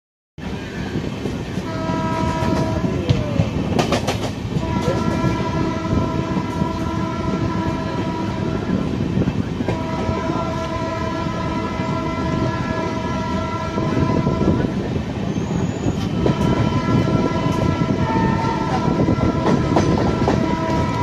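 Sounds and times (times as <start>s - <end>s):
train coaches rumbling: 0.4s - 21.0s
train horn blasts: 1.6s - 3.2s, 4.6s - 21.0s.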